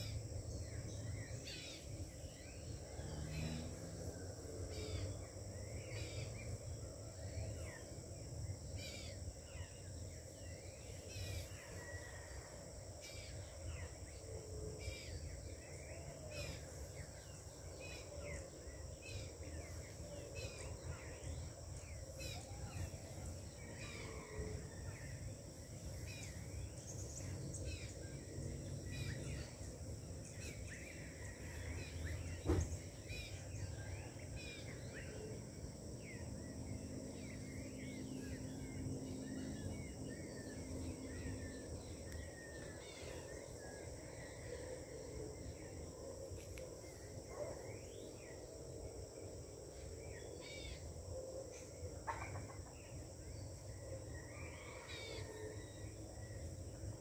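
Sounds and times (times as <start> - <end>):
high insect hum: 0.0 - 57.0.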